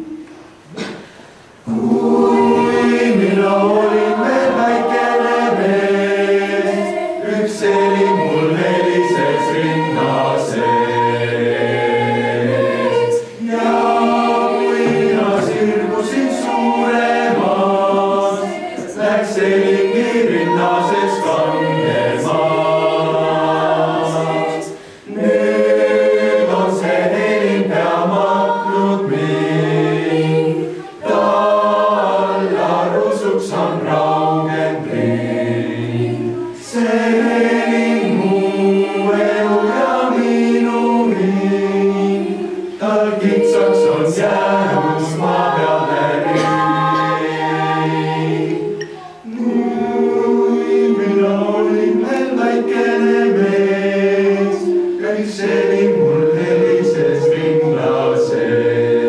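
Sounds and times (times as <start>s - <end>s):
youth choir singing a cappella: 0.0s - 59.0s.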